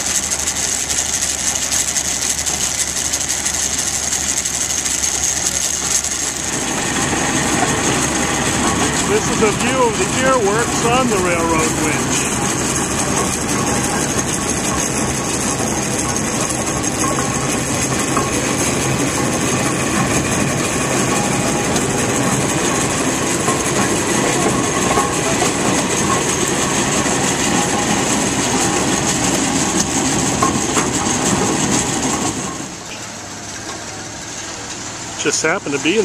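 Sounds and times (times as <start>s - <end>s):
winch engine mechanical clatter: 0.0s - 36.0s.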